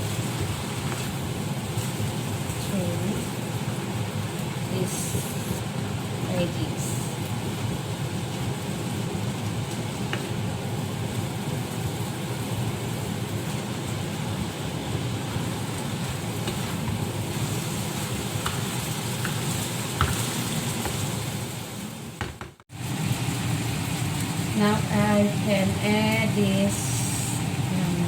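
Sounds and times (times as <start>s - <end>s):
food cooking in a pan: 0.0s - 28.0s.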